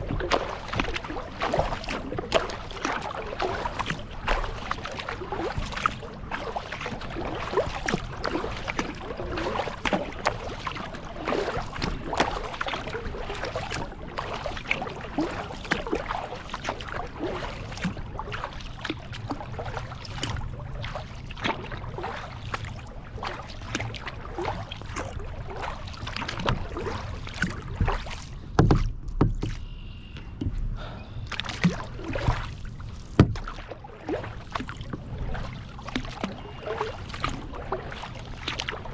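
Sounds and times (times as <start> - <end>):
paddle splashing water: 0.0 - 38.9
water lapping against hull: 0.0 - 38.9.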